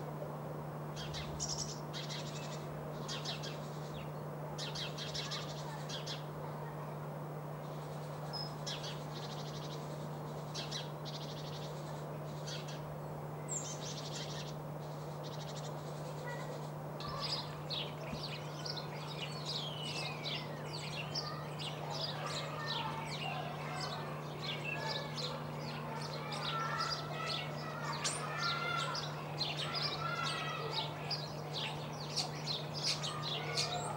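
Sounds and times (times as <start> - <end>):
songbirds chirping: 0.0 - 33.9
steady low hum: 0.0 - 33.9.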